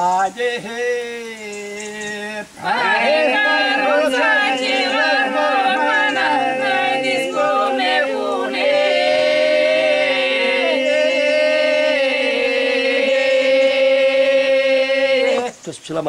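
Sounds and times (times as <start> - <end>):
voices singing unaccompanied: 0.0 - 16.0.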